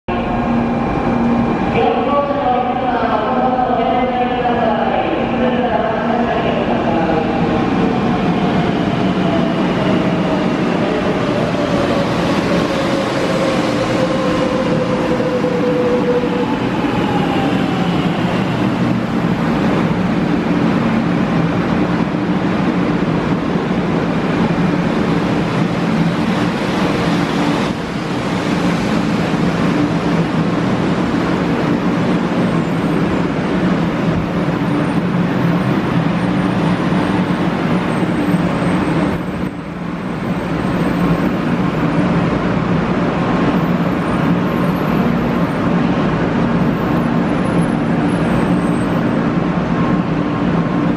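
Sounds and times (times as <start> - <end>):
train wheels rumbling on rail: 0.1 - 50.9.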